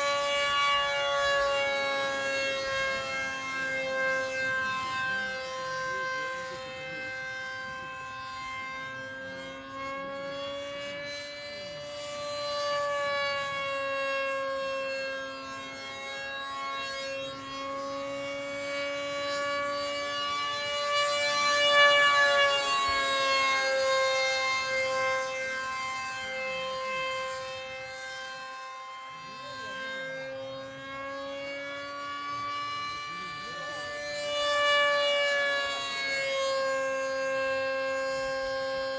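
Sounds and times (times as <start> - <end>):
electric model jet whine: 0.0 - 38.9.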